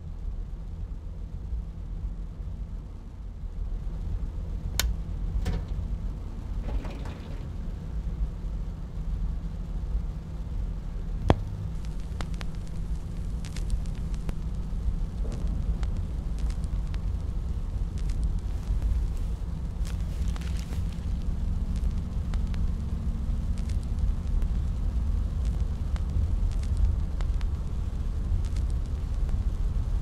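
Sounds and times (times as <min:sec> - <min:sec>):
low steady hum: 0:00.0 - 0:30.0
vinyl record crackle: 0:03.2 - 0:30.0.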